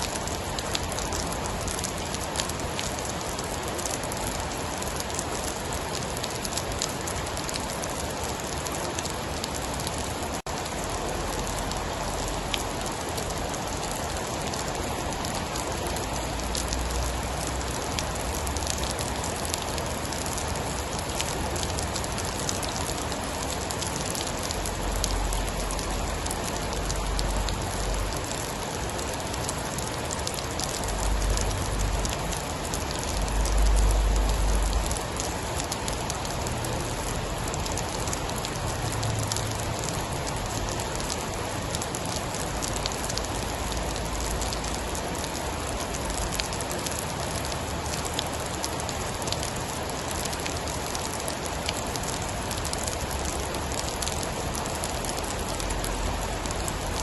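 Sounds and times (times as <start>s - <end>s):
heavy rain falling: 0.0s - 57.0s
sharp ticks of raindrops: 0.0s - 57.0s.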